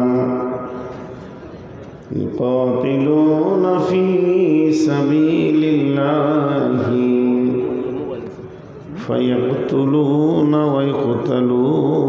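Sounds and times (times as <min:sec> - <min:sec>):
man reciting melodically: 0:00.0 - 0:01.0, 0:02.1 - 0:12.0.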